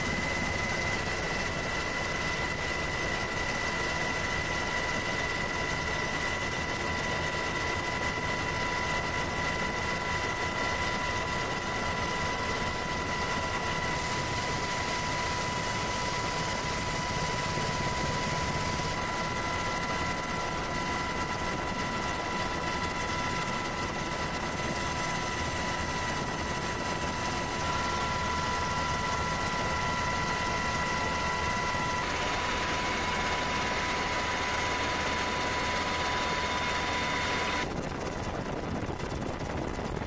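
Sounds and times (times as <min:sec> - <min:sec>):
aircraft rushing hum with whine: 0:00.0 - 0:40.0.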